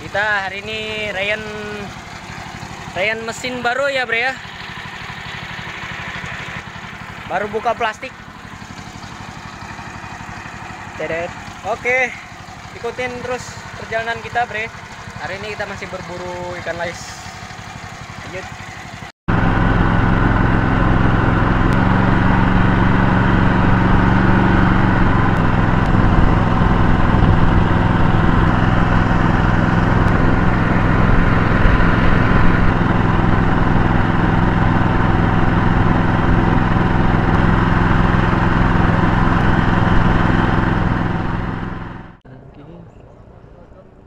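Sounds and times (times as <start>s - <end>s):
small boat engine running: 0.0s - 44.0s.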